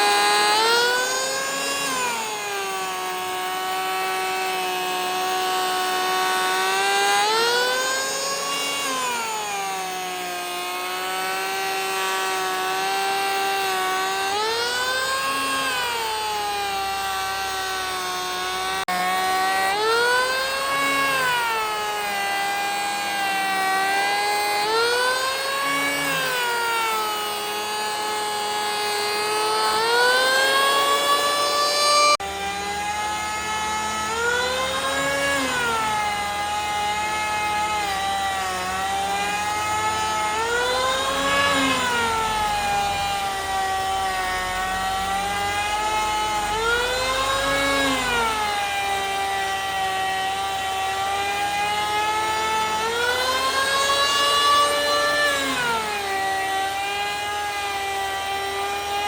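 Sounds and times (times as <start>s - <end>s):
power tool motor cutting wood: 0.0s - 59.0s.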